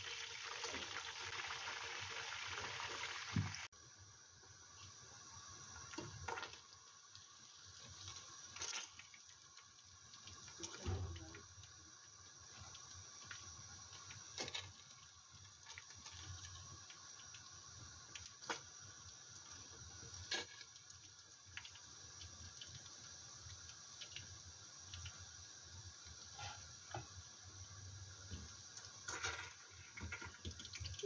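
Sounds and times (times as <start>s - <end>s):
fish frying in hot oil: 0.0s - 31.0s.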